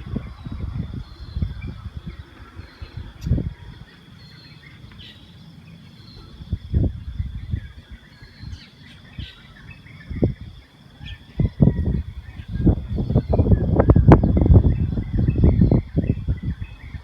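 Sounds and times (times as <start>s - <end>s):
birds chirping: 0.0s - 17.0s
wind rumbling on microphone: 0.0s - 17.0s.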